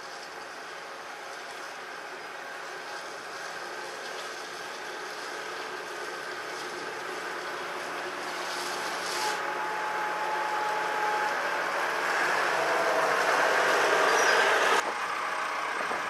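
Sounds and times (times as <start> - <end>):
thin steady whine: 0.0 - 16.0
tractor engine running: 0.0 - 16.0.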